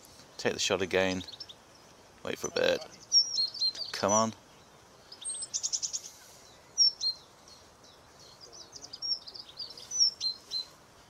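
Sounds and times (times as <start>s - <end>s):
songbirds singing and chirping: 0.0s - 11.0s.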